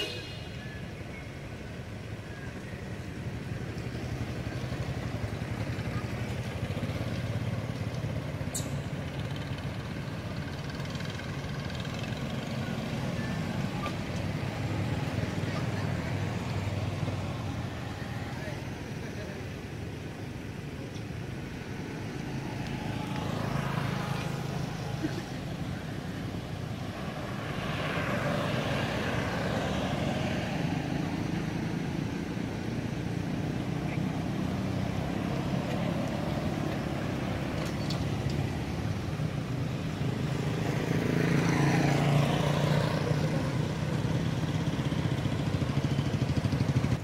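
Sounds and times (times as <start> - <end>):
low traffic rumble: 0.0 - 47.0
vehicles passing: 0.0 - 47.0.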